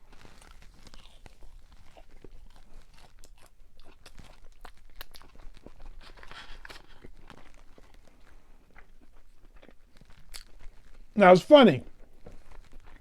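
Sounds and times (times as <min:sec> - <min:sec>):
person chewing crunchy food: 0:00.0 - 0:11.2, 0:11.8 - 0:13.0.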